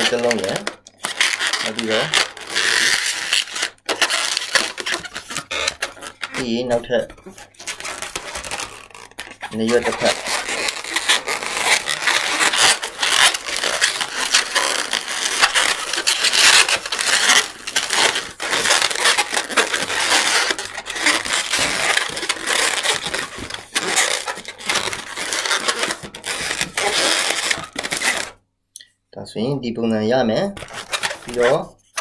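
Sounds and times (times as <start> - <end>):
balloon rubber squeaking: 0.0 - 28.4, 30.6 - 32.0.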